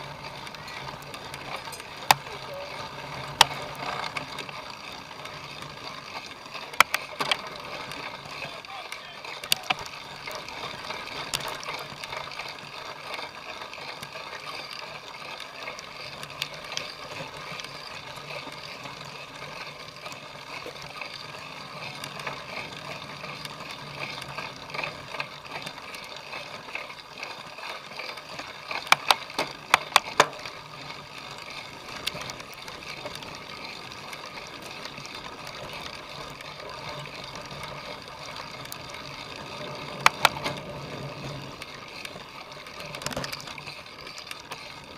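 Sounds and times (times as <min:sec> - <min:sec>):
bike tyre and drivetrain noise: 0:00.0 - 0:44.9.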